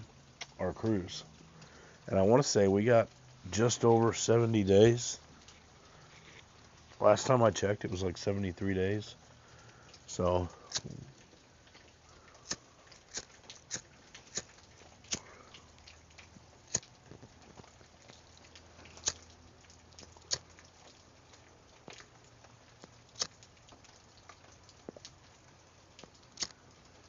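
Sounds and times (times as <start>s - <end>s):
falling rain hiss: 0.0s - 27.0s
rain drops dripping on hard surface: 0.0s - 27.0s.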